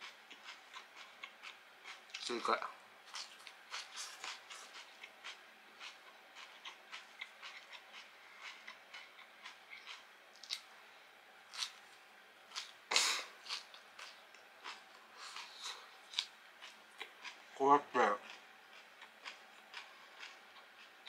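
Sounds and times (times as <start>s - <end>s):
person chewing crunchy food: 0.0s - 2.4s, 3.1s - 10.7s, 11.5s - 11.8s, 12.5s - 17.5s, 18.1s - 21.0s.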